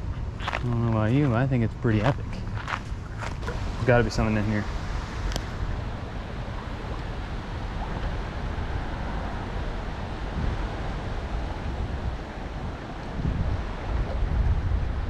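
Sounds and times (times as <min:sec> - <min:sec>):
wind buffeting microphone: 0:00.0 - 0:15.0
flowing river water: 0:02.0 - 0:15.0.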